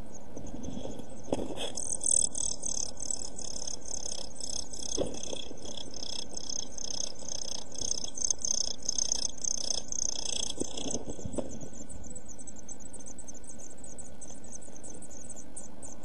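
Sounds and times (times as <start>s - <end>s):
nestlings chirping: 0.0s - 16.0s.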